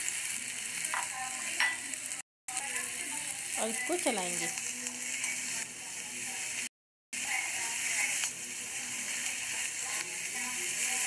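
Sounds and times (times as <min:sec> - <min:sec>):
okra sizzling in hot oil: 0:00.0 - 0:11.0.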